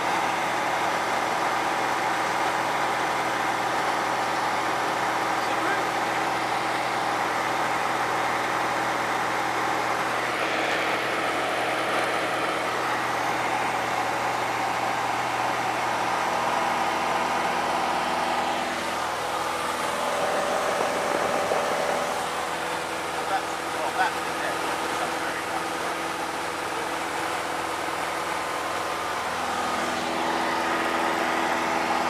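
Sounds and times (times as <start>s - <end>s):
aircraft engine and propeller drone: 0.0s - 32.0s.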